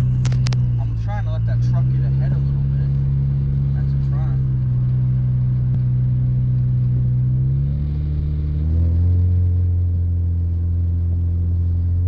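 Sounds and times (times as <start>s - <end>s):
car engine droning inside cabin: 0.0s - 12.0s.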